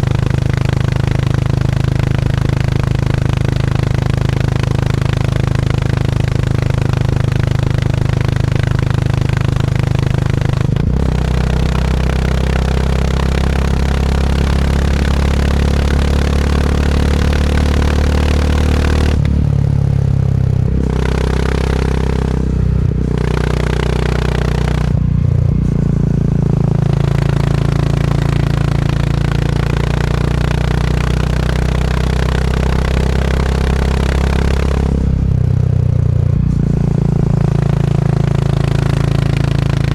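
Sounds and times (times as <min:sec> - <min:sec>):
motorcycle engine on the road: 0:00.0 - 0:39.9.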